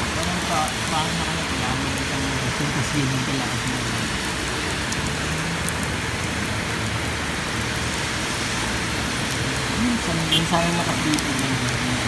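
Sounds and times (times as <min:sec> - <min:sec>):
rain falling on ground: 0:00.0 - 0:12.0.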